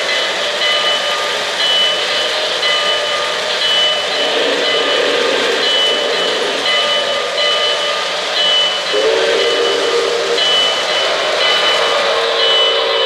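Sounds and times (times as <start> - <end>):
model train steam hiss: 0.0 - 13.0.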